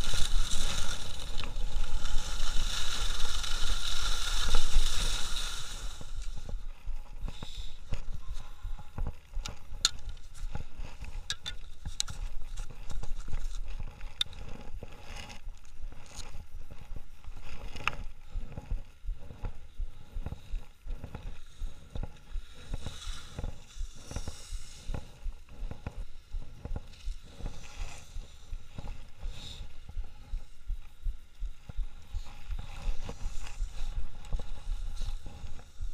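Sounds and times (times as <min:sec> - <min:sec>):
skis scraping over snow: 0:00.0 - 0:16.5, 0:19.2 - 0:30.6, 0:32.0 - 0:35.9
wind rumble on microphone: 0:00.0 - 0:35.9.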